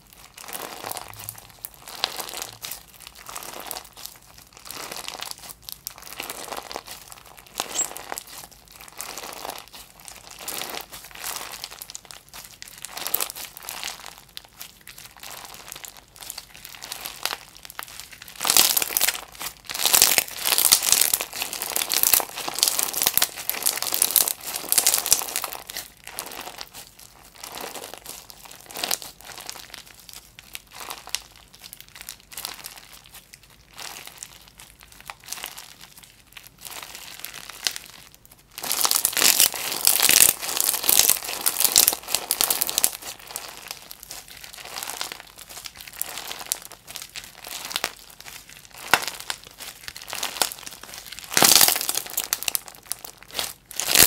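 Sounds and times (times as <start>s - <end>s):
slime squeezed by hand: 0.1s - 30.1s, 38.6s - 54.0s.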